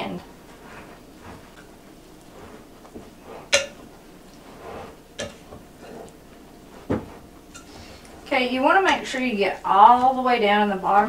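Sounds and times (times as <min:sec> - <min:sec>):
spoon scraping thick mixture: 0:00.4 - 0:10.2.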